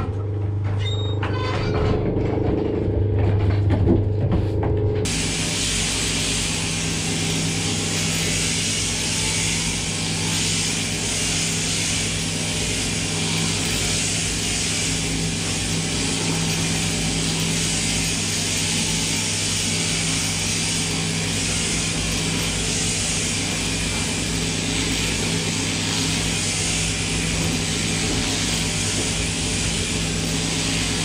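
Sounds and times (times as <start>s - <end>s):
shearing machine motor hum: 0.0s - 31.0s.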